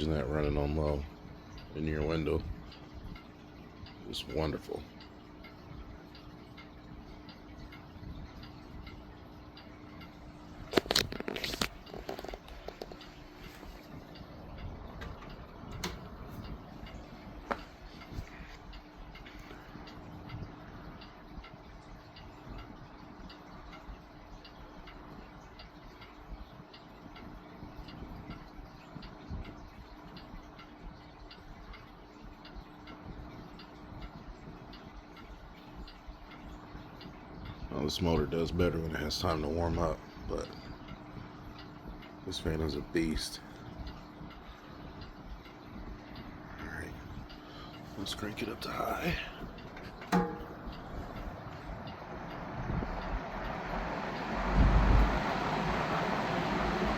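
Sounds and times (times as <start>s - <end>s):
box fan humming and ticking: 0.0s - 56.9s.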